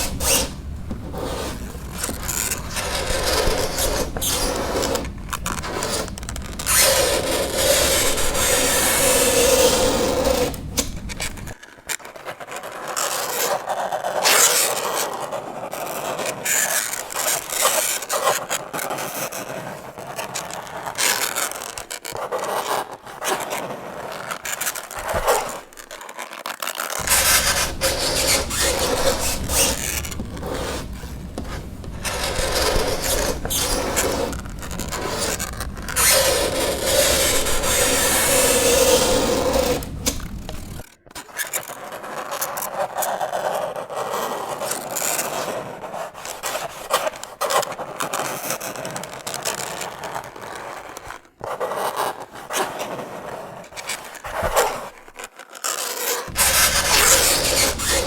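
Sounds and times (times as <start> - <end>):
fingernails scraping chalkboard: 0.0 - 11.6, 15.8 - 25.9, 27.0 - 40.9, 43.0 - 54.9, 55.8 - 58.0.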